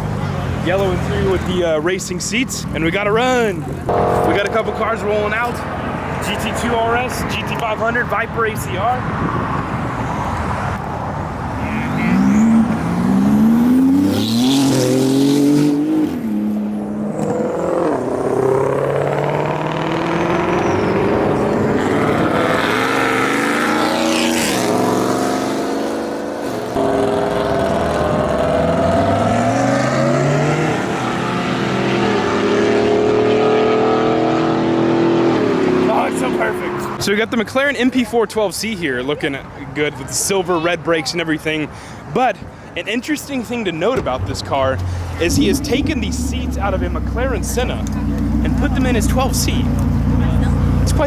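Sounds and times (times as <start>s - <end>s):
car engines accelerating: 2.6s - 37.4s, 43.8s - 51.0s.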